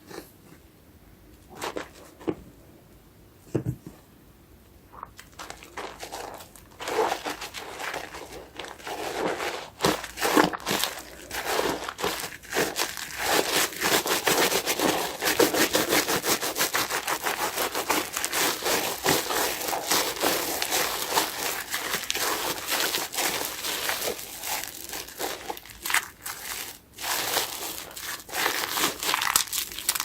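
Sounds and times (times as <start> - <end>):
foamy sponge squeezed by hand: 5.6 - 30.0.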